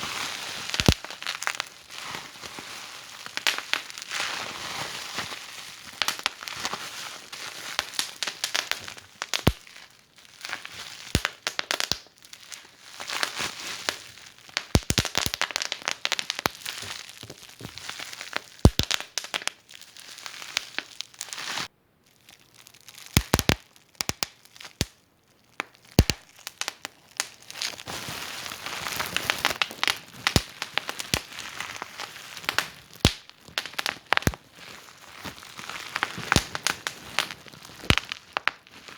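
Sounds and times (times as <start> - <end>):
wood fire crackling and popping: 0.0 - 1.9, 3.2 - 4.0, 5.8 - 6.8, 7.5 - 9.9, 10.5 - 21.3, 23.1 - 24.9, 25.6 - 38.9.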